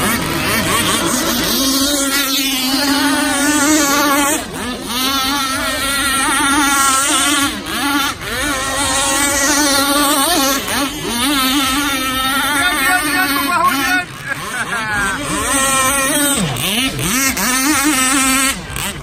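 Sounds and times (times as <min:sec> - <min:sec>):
model boat engine whining: 0:00.0 - 0:19.0.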